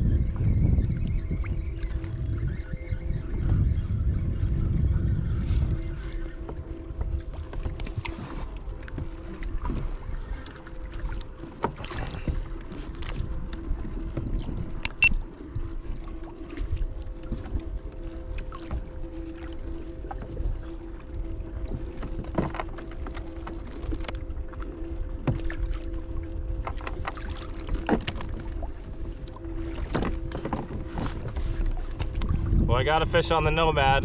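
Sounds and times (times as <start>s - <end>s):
low wind rumble: 0.0s - 34.0s
water lapping against kayak: 0.0s - 34.0s.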